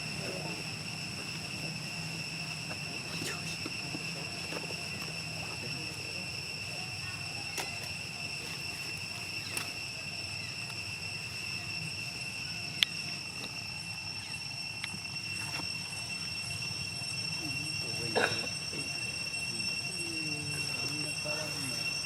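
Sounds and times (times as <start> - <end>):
high-pitched drone: 0.0 - 22.0.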